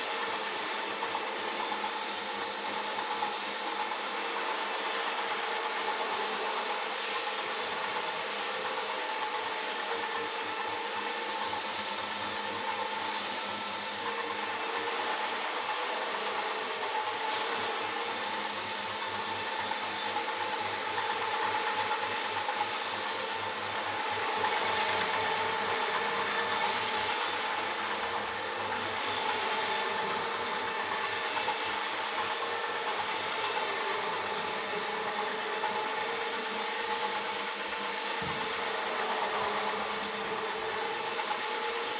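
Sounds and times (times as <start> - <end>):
floor polisher running: 0.0 - 41.9.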